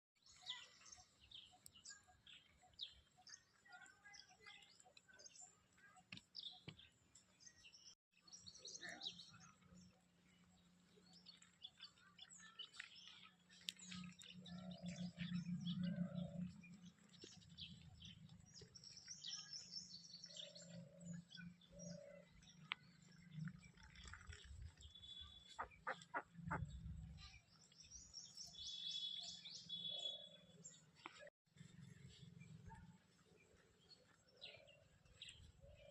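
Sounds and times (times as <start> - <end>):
birds chirping: 0.2 - 35.9.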